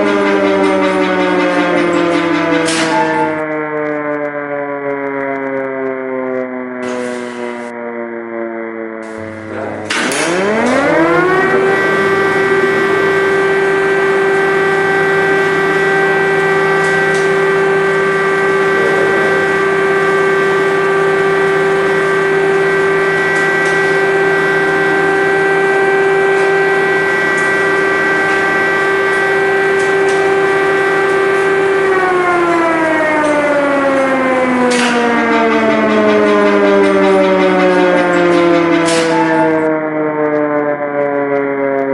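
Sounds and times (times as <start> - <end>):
air-raid siren wailing: 0.0 - 41.9.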